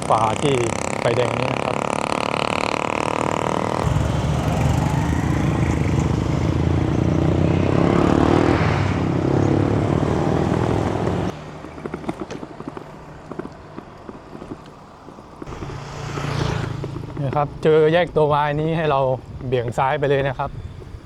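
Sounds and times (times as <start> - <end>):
vehicle engines running: 0.0 - 20.9.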